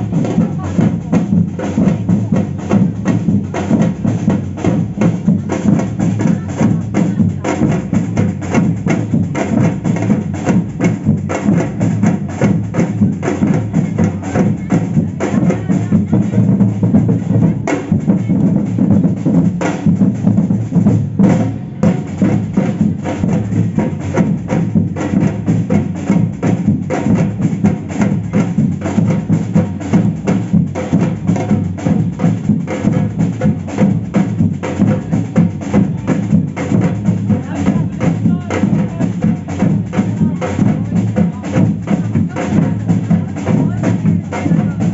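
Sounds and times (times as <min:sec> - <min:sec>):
deep bass drums: 0:00.0 - 0:44.9
samba drum band: 0:00.0 - 0:44.9.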